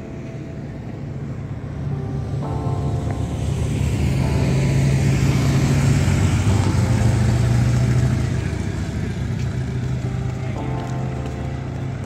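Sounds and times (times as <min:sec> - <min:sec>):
motorcycle passing by: 0:01.8 - 0:12.0.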